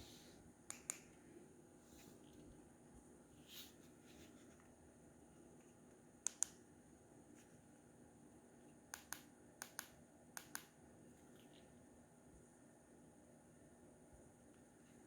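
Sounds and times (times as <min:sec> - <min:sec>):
projector hum and whine: 0:00.0 - 0:15.0.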